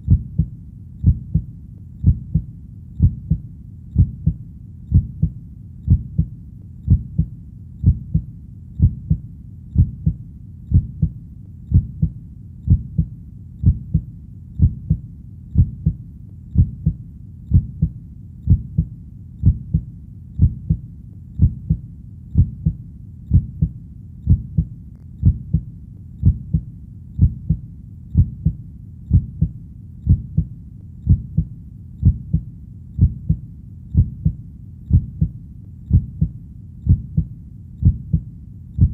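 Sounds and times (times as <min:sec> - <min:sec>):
heartbeat lub-dub: 0:00.0 - 0:38.9.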